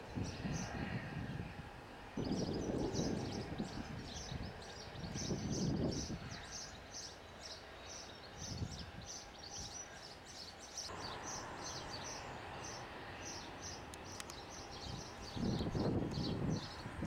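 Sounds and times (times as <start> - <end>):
distant jet noise hiss: 0.0 - 17.0.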